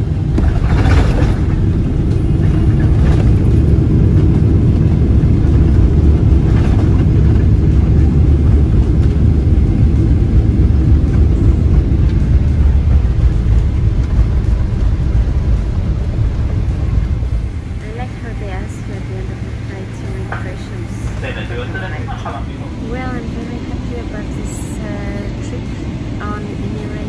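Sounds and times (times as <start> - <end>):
airplane rumble from inside cabin: 0.0 - 27.0.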